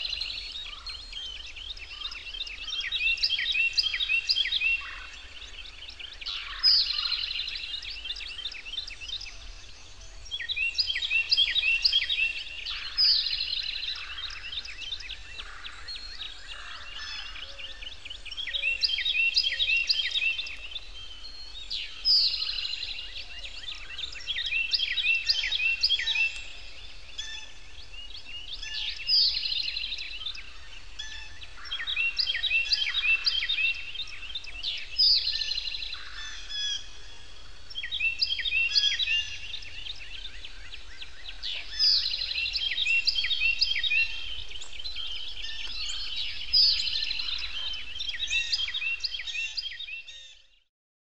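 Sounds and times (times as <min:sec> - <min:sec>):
birds chirping and singing: 0:00.0 - 0:50.7.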